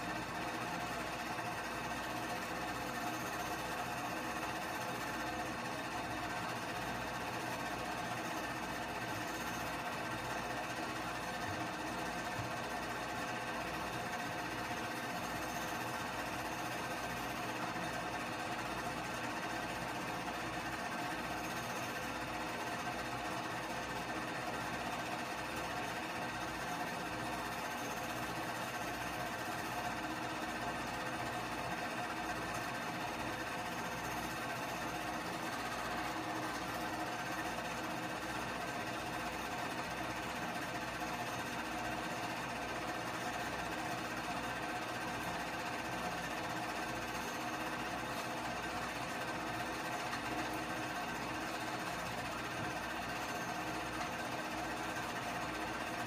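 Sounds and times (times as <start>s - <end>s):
movie projector running: 0.0s - 56.0s.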